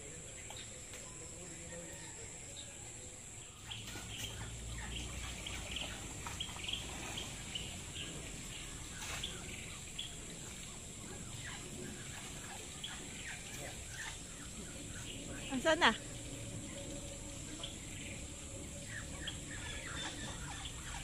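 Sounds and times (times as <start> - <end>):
small birds chirping: 2.0 - 21.0.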